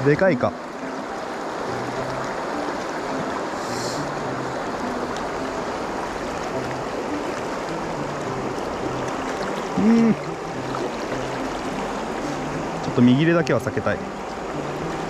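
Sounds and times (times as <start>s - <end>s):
river water running over rocks: 0.0s - 15.0s.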